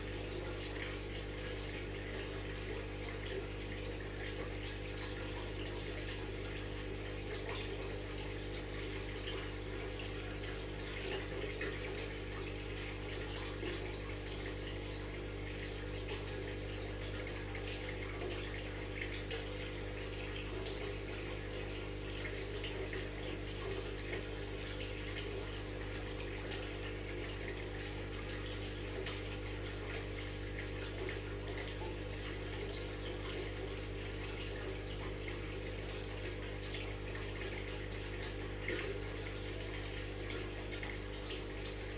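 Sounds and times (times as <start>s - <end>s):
aquarium filter water trickling: 0.0s - 41.9s
bubbles: 0.0s - 41.9s.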